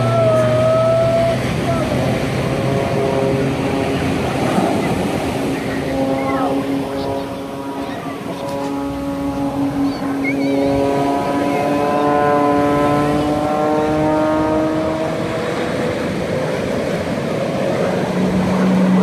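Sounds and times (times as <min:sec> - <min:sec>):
propeller airplane engine droning: 0:00.0 - 0:19.0
surf washing: 0:00.0 - 0:19.0.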